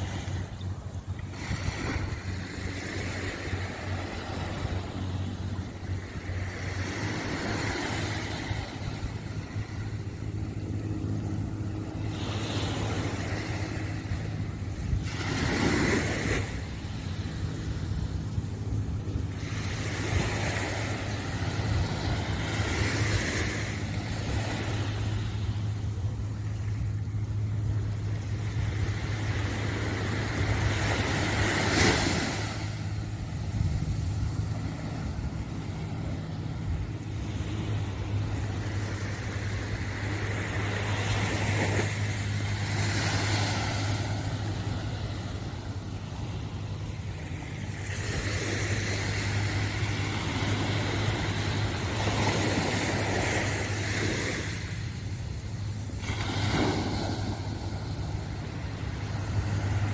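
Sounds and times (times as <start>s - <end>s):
small waves breaking on beach: 0.0s - 59.9s
steady low hum: 0.0s - 59.9s.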